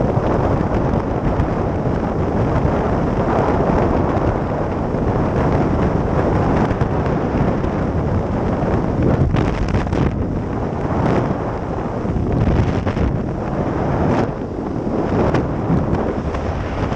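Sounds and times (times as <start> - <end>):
wind buffeting microphone: 0.0 - 16.9
wind flutters: 0.0 - 16.9.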